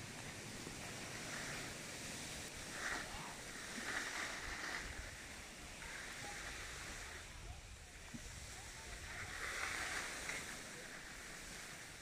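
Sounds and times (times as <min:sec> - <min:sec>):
skis sliding over snow: 0:00.0 - 0:12.0.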